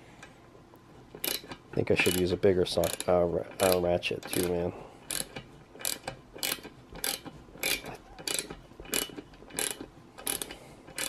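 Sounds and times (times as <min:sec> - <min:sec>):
socket ratchet clicking: 0:01.2 - 0:11.0.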